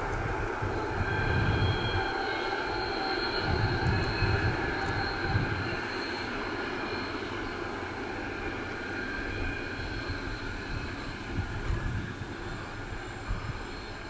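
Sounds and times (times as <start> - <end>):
locomotive diesel engine drone: 0.0 - 14.0.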